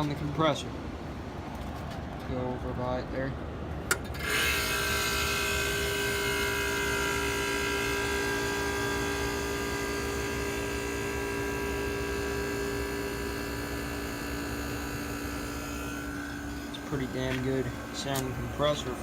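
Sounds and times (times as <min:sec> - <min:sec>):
air conditioner compressor humming: 0:00.0 - 0:19.0
fan blowing: 0:00.0 - 0:19.0.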